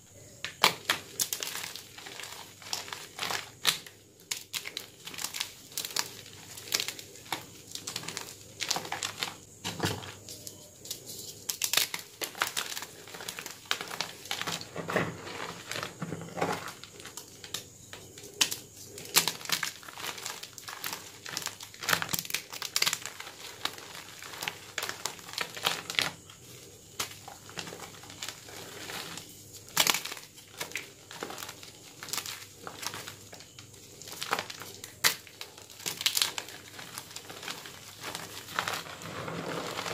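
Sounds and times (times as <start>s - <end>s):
chalk blocks crunching in hands: 0.4s - 9.4s, 10.0s - 26.2s, 26.9s - 39.9s.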